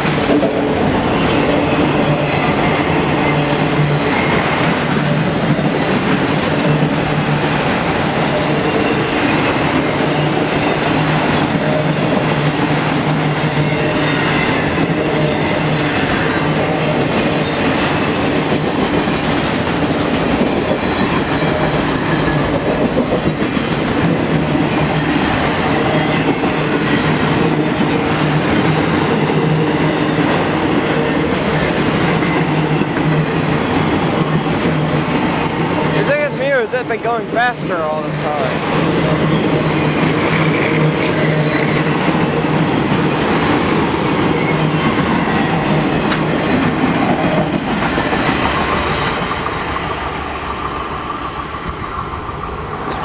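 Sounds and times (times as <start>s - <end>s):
freight train rolling past: 0.0s - 53.0s
steel wheels clattering on rails: 0.0s - 53.0s.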